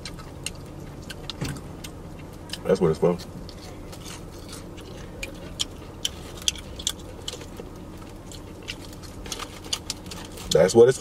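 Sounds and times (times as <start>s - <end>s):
crunching fried chicken: 0.0s - 11.0s.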